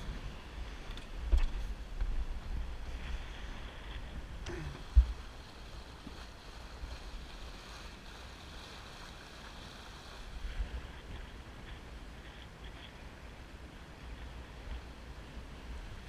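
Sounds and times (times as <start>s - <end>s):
water rushing along a hull: 0.0s - 16.0s
wind rumbling on microphone: 0.0s - 16.0s.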